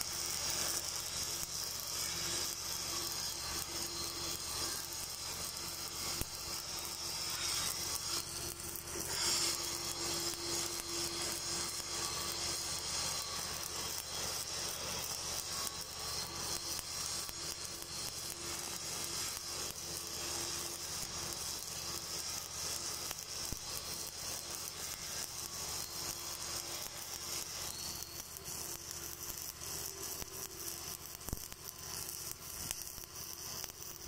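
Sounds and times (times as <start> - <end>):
welding arc crackling sizzle: 0.0 - 34.0.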